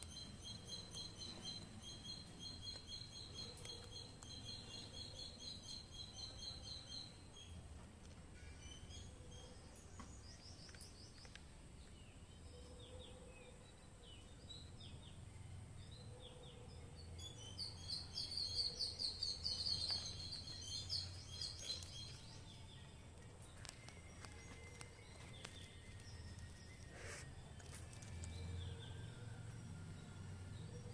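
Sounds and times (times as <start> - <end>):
bird chirping: 0.0 - 30.9.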